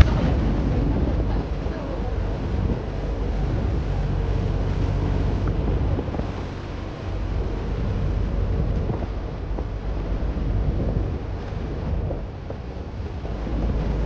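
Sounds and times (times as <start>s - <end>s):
vehicle low rumble: 0.0s - 14.0s
wind buffeting microphone: 0.0s - 14.0s.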